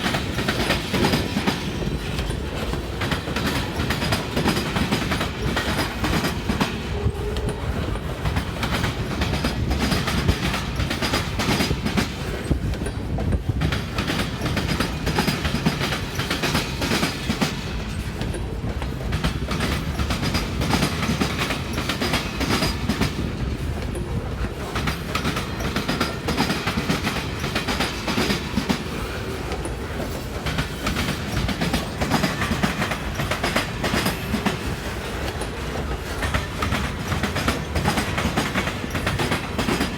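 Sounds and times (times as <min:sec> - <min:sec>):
low train rumble: 0:00.0 - 0:39.9
train wheels clicking over rail joints: 0:00.0 - 0:39.9.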